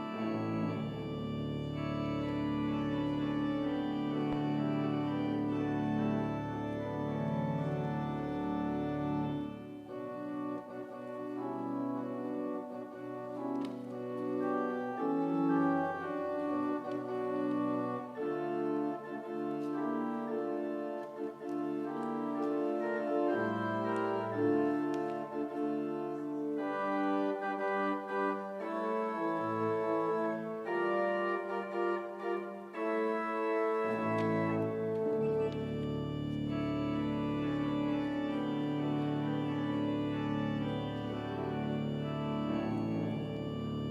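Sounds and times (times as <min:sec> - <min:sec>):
organ playing sustained chords: 0:00.0 - 0:43.9.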